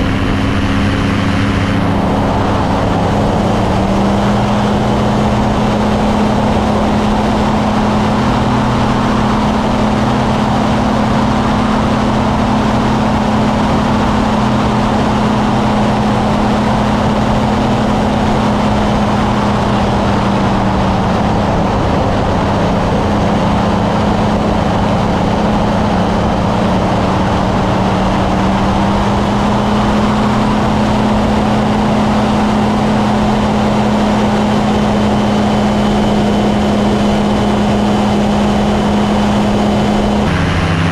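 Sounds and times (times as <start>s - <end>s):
aircraft engine and propeller: 0.0s - 40.9s.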